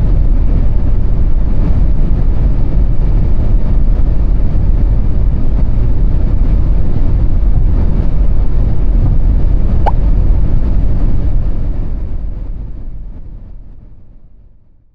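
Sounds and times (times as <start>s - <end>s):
in-car driving noise: 0.0s - 14.7s.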